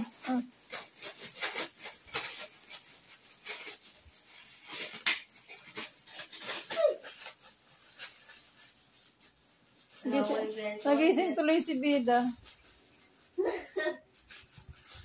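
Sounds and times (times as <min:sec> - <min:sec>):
dog chewing foil: 0:00.0 - 0:15.0
foil crinkling: 0:00.0 - 0:15.0.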